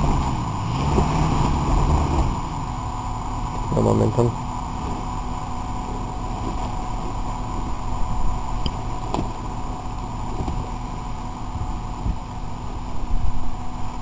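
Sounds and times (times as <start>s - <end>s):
pickup truck engine running: 0.0s - 14.0s.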